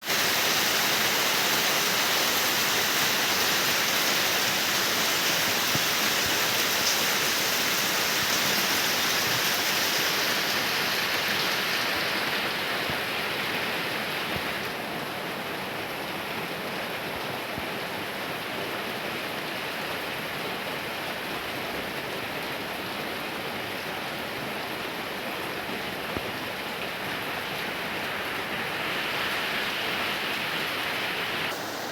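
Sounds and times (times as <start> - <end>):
heavy rain: 0.0 - 31.9.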